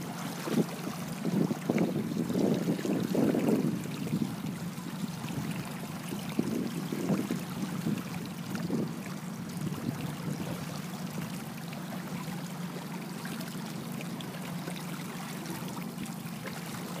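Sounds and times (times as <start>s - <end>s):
constant low hum: 0.0s - 17.0s
water splashing against hull: 0.0s - 17.0s.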